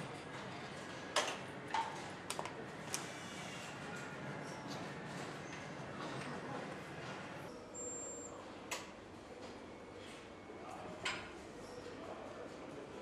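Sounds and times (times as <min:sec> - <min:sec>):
factory hall hum: 0:00.0 - 0:13.0.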